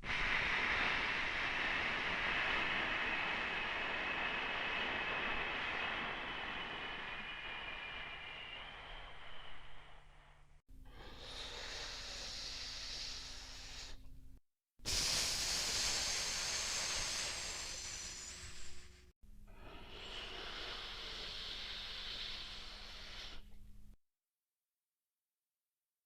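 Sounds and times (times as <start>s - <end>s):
loud rushing breath: 0.0s - 14.2s, 14.9s - 23.6s
breathy hiss: 0.0s - 23.9s.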